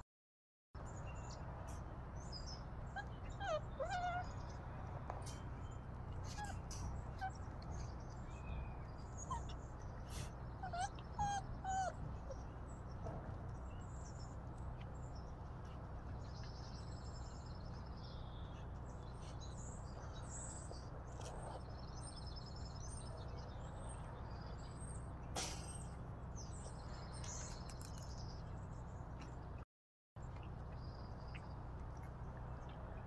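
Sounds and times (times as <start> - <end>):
low outdoor rumble: 0.8 - 29.6, 30.2 - 33.0
songbirds chirping and trilling: 0.8 - 29.6, 30.2 - 33.0.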